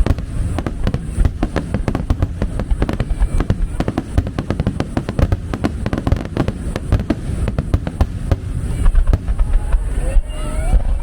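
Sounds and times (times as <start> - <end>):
deep rumble: 0.0 - 11.0
fireworks bangs and crackles: 0.0 - 11.0.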